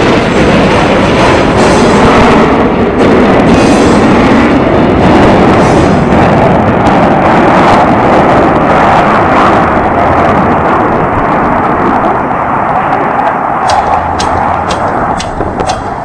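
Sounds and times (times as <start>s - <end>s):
jets flying by: 0.0s - 16.0s.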